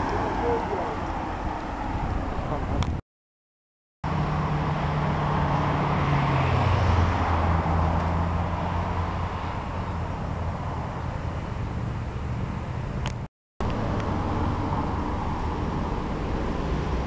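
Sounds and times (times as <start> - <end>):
car traffic passing: 0.0 - 2.8, 4.0 - 13.0, 13.6 - 17.0.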